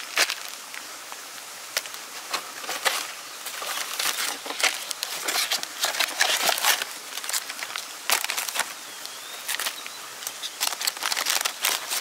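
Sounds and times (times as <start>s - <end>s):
plastic packaging crinkling: 1.8s - 12.0s.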